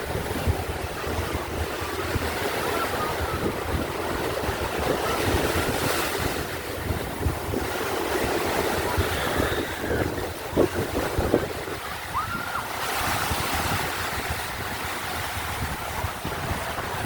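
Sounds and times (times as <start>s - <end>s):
surf washing ashore: 0.0s - 17.0s
wind buffeting the microphone: 0.0s - 17.0s.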